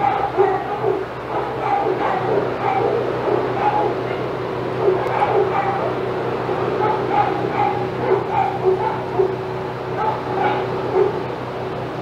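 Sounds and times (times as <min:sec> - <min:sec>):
dogs barking and yipping: 0:00.0 - 0:11.4
steady low hum: 0:00.0 - 0:12.0.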